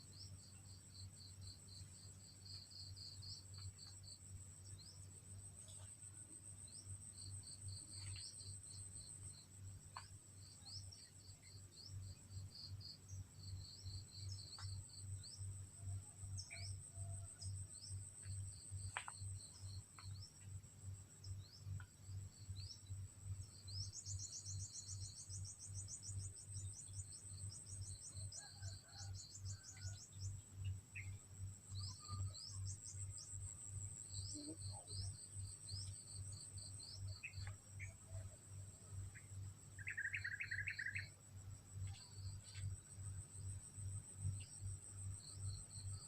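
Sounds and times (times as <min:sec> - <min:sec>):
high insect trill: 0:00.0 - 0:46.0.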